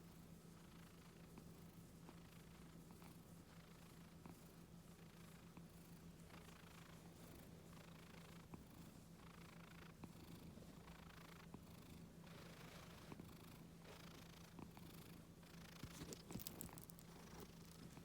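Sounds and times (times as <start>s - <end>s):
cat purring softly: 0.0s - 18.0s.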